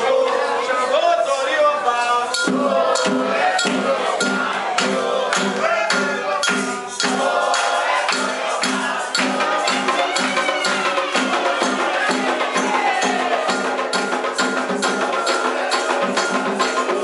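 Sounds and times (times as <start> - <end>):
chanting voices: 0.0 - 17.0
hand percussion: 2.2 - 17.0.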